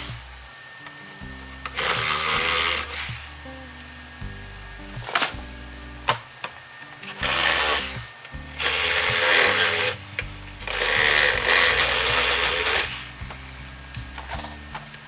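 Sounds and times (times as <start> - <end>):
background music: 0.0 - 15.0
electric chainsaw cutting bamboo: 0.0 - 15.0.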